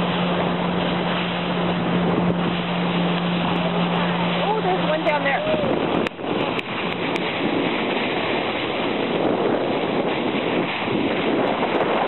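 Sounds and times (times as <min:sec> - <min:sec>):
wind and water rushing: 0:00.0 - 0:12.0
wind buffeting microphone: 0:00.0 - 0:12.0.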